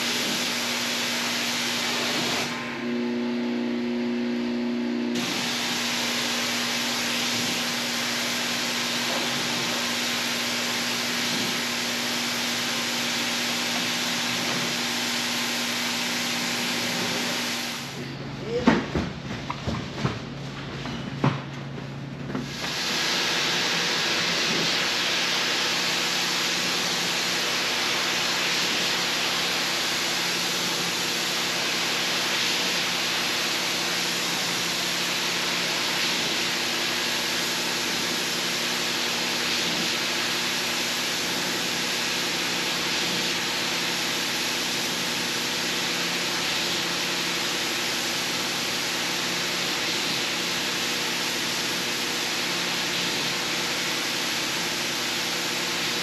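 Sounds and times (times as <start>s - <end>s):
rug cleaning machine hissing: 0.0s - 3.1s, 5.1s - 18.0s, 22.4s - 56.0s.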